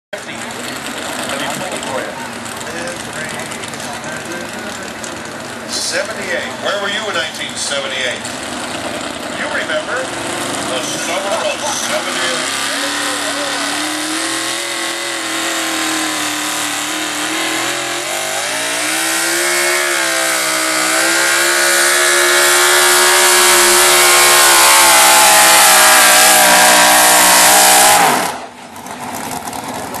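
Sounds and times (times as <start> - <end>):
truck engine at full throttle: 0.2 - 30.0.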